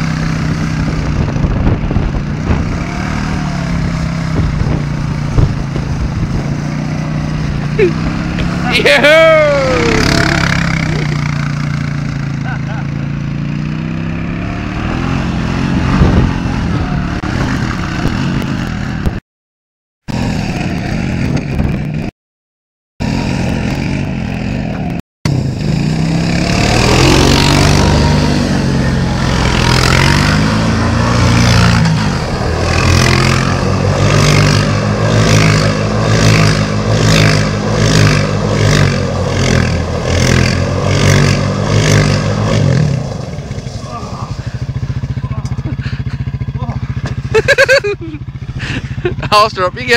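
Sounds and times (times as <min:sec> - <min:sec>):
quad bike engine revving: 0:00.0 - 0:19.2, 0:20.1 - 0:22.1, 0:23.0 - 0:49.9.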